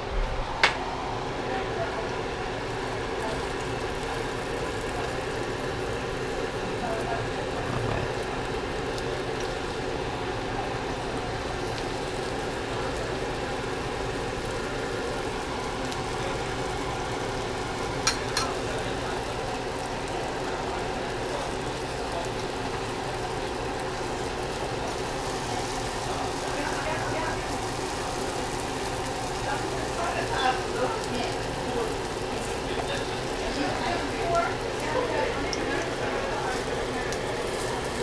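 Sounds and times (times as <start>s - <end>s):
dumplings sizzling in oil: 0.8s - 38.0s.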